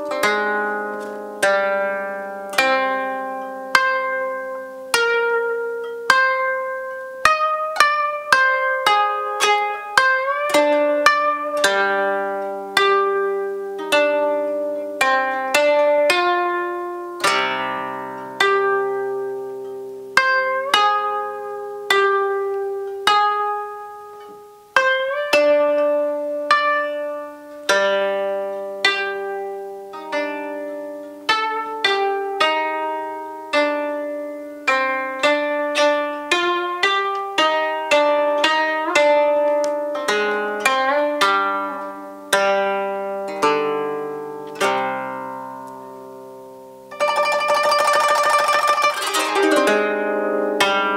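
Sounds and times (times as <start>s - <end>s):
koto being plucked: 0.0s - 50.9s.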